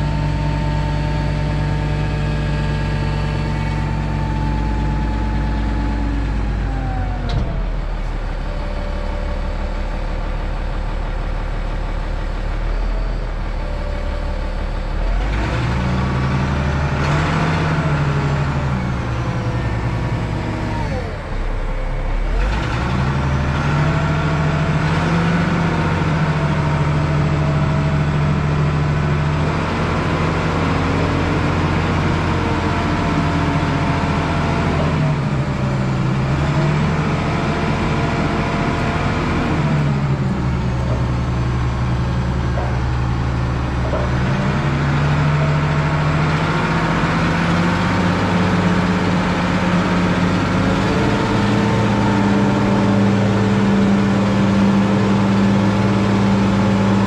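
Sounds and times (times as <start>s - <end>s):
loader engine revving: 0.0s - 57.0s.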